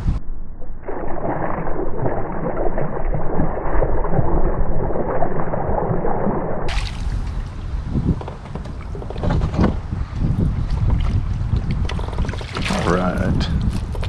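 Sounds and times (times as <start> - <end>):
muffled water sloshing and splashing: 0.8 - 14.0.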